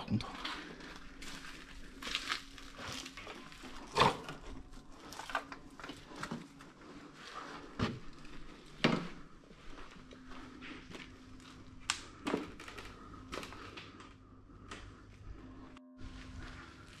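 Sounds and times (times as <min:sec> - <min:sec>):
footsteps on burnt debris: 0:00.2 - 0:14.0.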